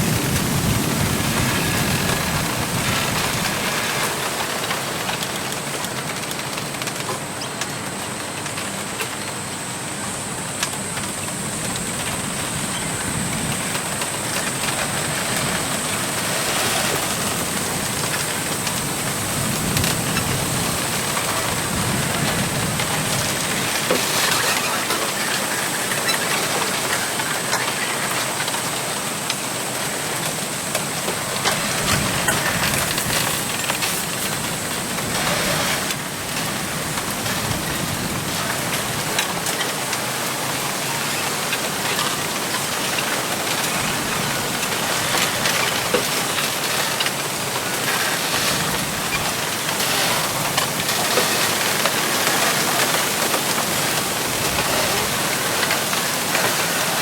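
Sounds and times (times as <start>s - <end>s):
wind rustling bamboo leaves: 0.0s - 57.0s.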